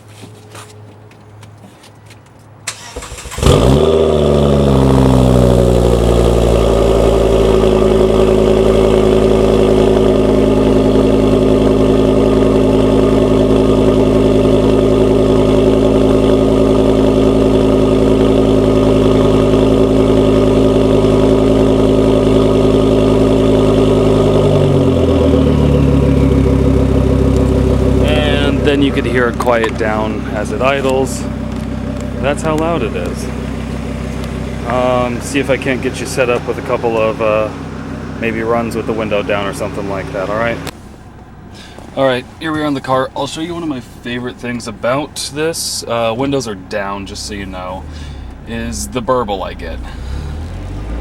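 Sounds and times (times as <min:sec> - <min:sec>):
car engine idling: 0:00.4 - 0:51.0
car engine starting: 0:02.6 - 0:51.0.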